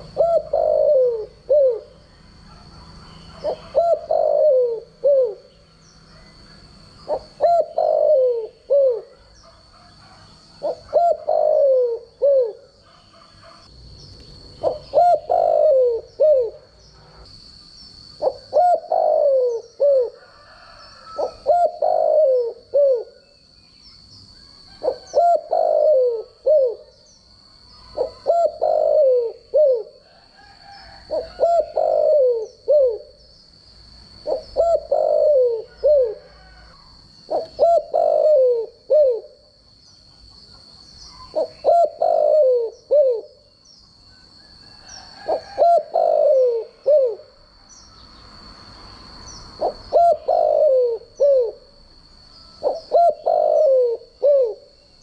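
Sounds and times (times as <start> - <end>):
dove cooing: 0.0 - 13.7, 14.6 - 17.2, 18.2 - 23.3, 24.6 - 27.1, 27.8 - 33.2, 34.1 - 39.6, 40.4 - 43.4, 44.8 - 47.4, 49.5 - 51.7, 52.4 - 54.8.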